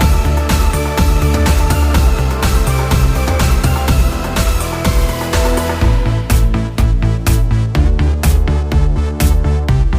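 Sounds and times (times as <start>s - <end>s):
electronic dance music: 0.0s - 9.9s.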